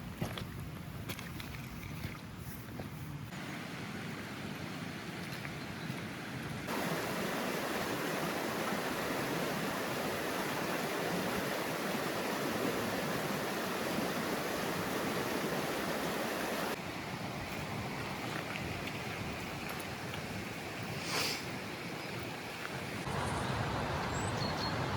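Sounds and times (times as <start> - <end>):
rushing water: 3.3 - 24.9.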